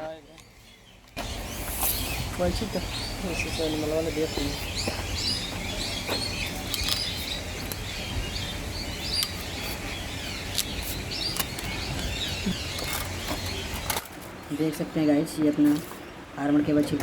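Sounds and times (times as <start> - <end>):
small birds chirping: 0.0 - 15.8
steady low hum: 0.0 - 17.0.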